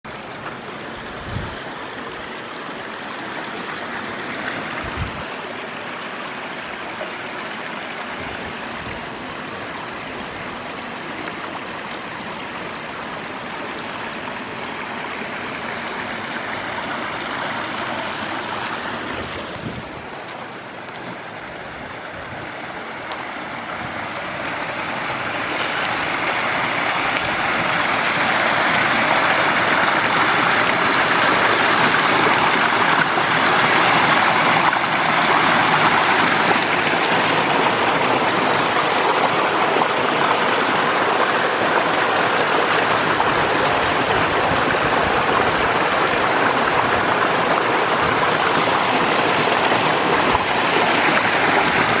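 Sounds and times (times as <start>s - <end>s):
stream rushing over stones: 0.0s - 52.0s.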